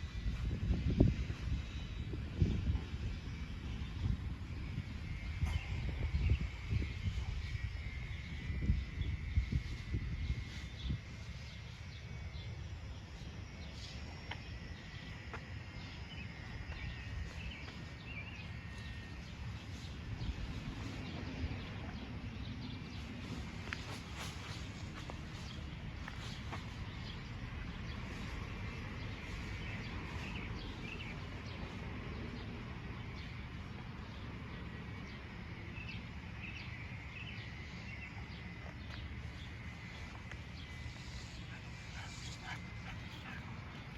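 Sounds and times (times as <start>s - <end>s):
wind rumble: 0.0s - 36.3s
small birds chirping: 0.2s - 43.9s.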